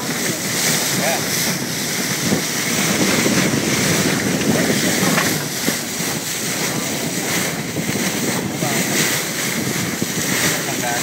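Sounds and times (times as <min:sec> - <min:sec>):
water rushing along boat bow: 0:00.0 - 0:11.0
wind buffeting microphone: 0:00.0 - 0:11.0.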